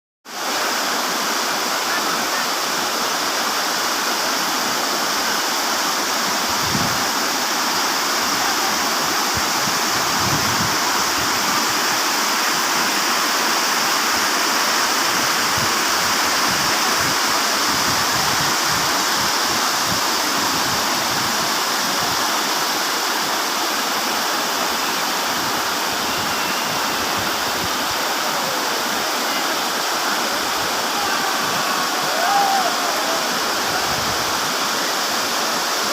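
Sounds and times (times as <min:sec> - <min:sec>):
waterfall roaring: 0:00.3 - 0:35.9.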